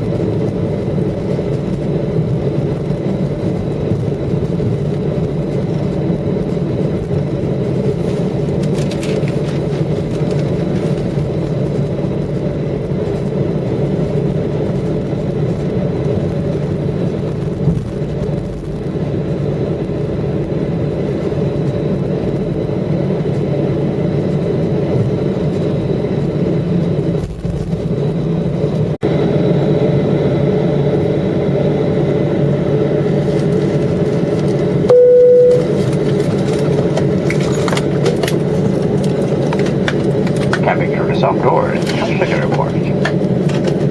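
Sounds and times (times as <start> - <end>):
jet engines idling in cabin: 0.0 - 43.9.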